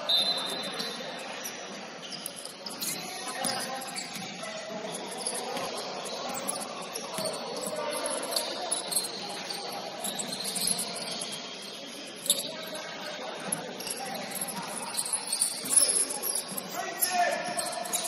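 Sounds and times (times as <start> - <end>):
gym background noise: 0.0 - 18.0
shoes squeaking on gym floor: 0.0 - 18.0.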